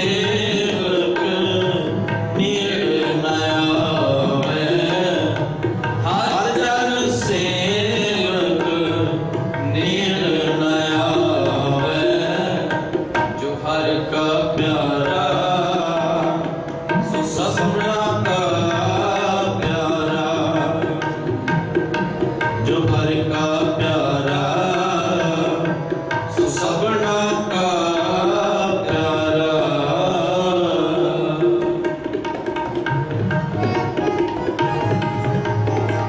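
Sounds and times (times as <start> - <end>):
devotional singing: 0.0 - 12.9, 13.6 - 21.0, 22.6 - 31.6
harmonium chords: 0.0 - 36.0
tabla rhythm: 0.0 - 36.0.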